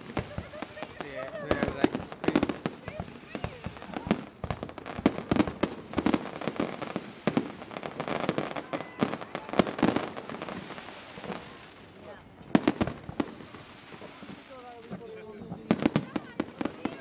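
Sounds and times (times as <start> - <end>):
faint people's voices: 0.0 - 17.0
fireworks bangs and booms: 0.0 - 17.0
fireworks crackling: 0.0 - 17.0.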